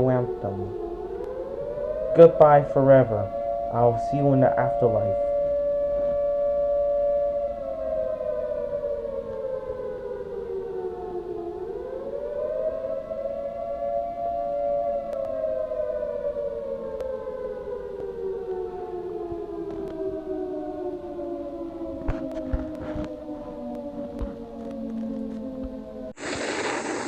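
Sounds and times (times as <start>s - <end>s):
civil defense siren wailing: 0.0s - 26.2s.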